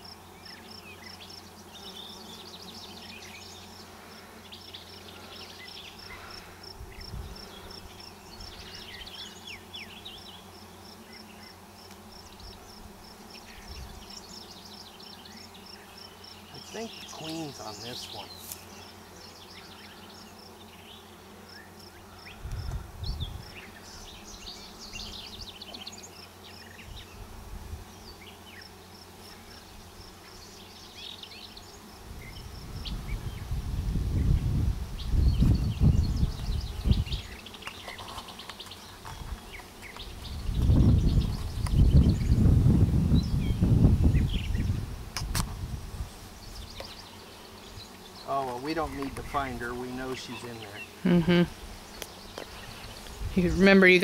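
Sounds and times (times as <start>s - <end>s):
bee colony humming: 0.0s - 54.0s.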